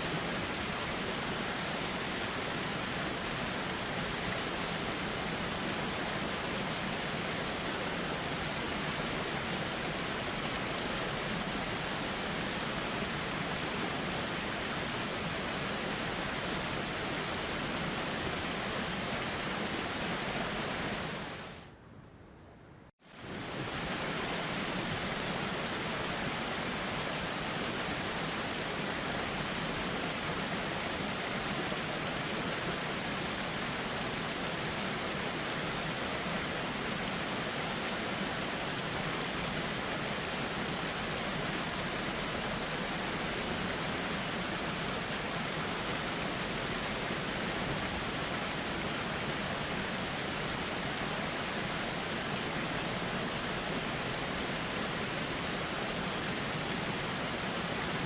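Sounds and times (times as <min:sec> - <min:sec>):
river water rushing: 0:00.0 - 0:21.6, 0:23.1 - 0:58.0.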